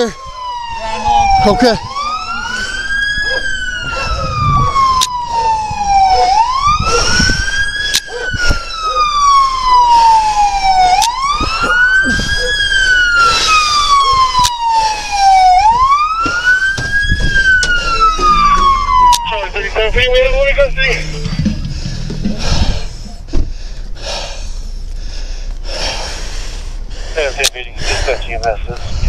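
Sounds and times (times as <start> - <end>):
police siren wailing: 0.0 - 23.4.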